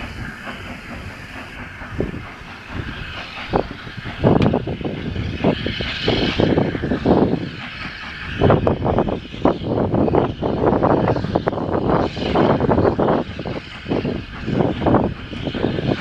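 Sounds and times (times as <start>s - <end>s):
steady rushing haze: 0.0s - 16.0s
steam locomotive chuffing: 0.0s - 16.0s.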